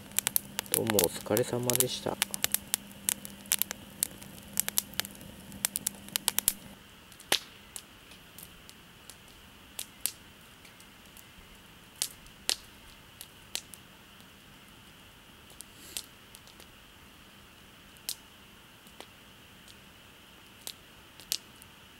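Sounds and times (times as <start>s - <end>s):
firewood crackling and popping: 0.0s - 21.9s.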